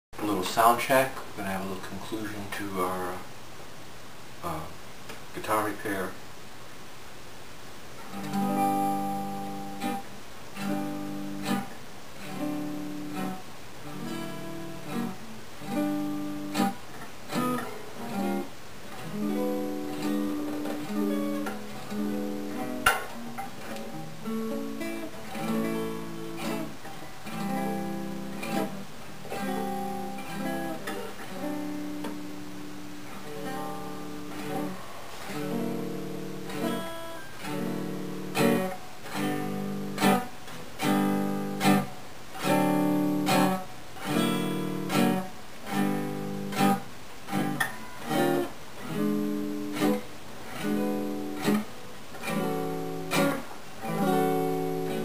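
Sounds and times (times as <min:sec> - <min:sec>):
acoustic guitar playing: 0:08.0 - 0:55.0.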